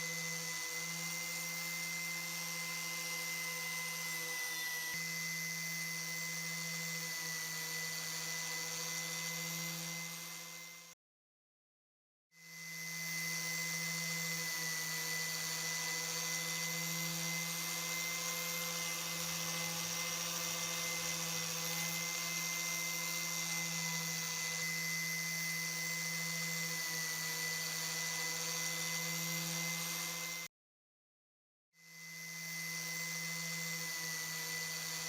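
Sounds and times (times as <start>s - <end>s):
power tool motor whining: 0.0s - 11.0s, 12.4s - 30.5s, 31.8s - 35.0s.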